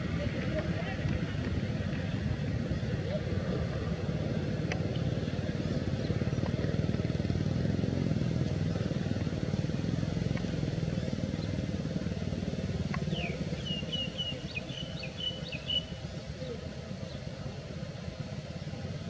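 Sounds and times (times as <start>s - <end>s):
small motorcycle engine running: 0.0s - 19.0s.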